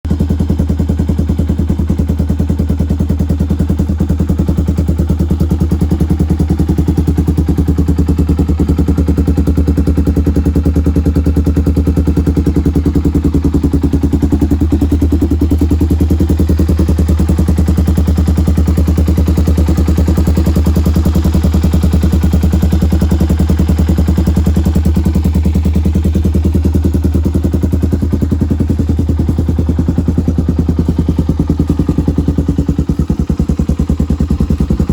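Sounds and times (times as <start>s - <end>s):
single-cylinder engine idling: 0.0s - 34.9s.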